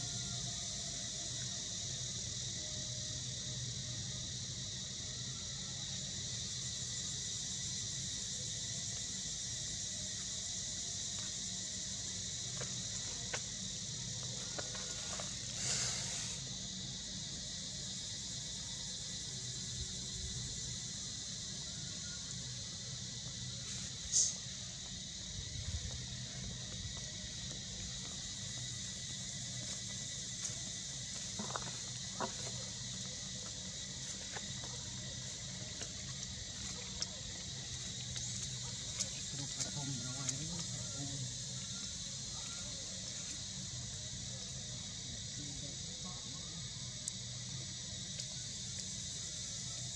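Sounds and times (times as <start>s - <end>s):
high insect chorus: 0.0s - 49.9s
steady high hiss: 0.0s - 49.9s.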